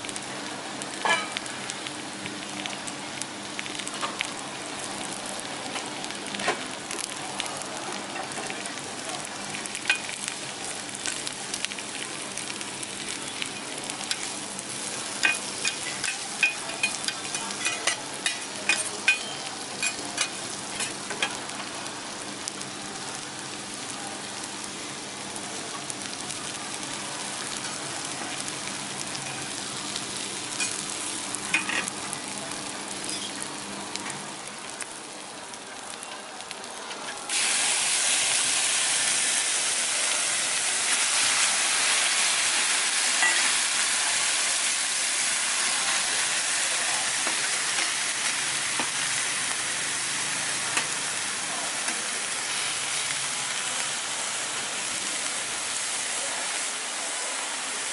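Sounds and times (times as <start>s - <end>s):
meat sizzling loudly: 0.0s - 57.9s
vegetables sizzling on griddle: 0.0s - 57.9s.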